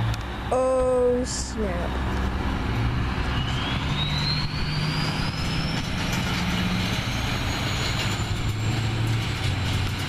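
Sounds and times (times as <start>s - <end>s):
high turbo whine: 0.0s - 10.0s.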